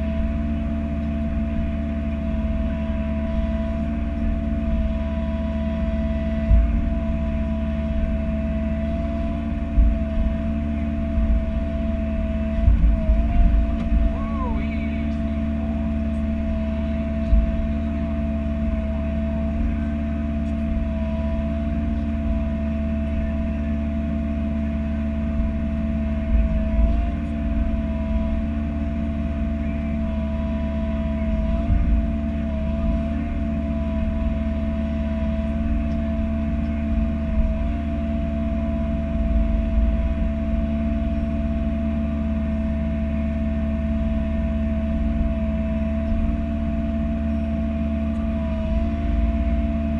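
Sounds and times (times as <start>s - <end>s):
excavator diesel engine whining: 0.0s - 49.9s
low thumps: 0.0s - 49.9s.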